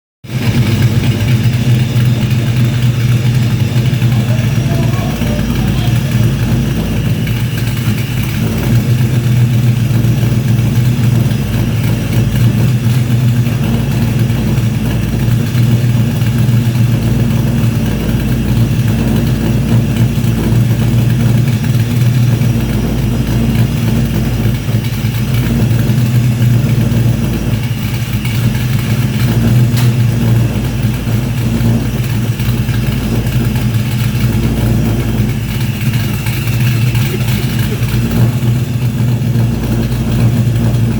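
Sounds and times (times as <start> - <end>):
engine idling: 0.2 - 40.9.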